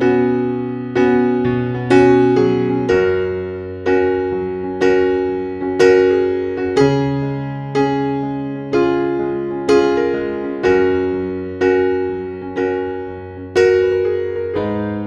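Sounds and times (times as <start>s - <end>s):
gentle electric piano music: 0.0s - 15.0s.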